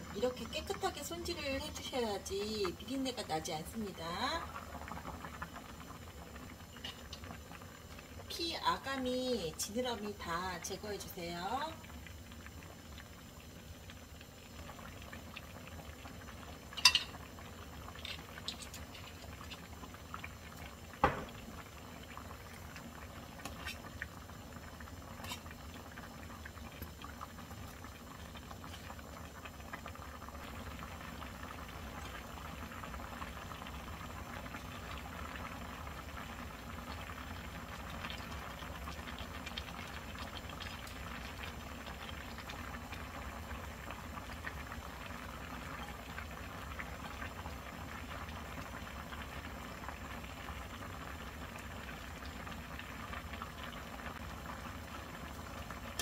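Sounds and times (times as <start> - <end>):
stew bubbling in a pan: 0.0 - 56.0.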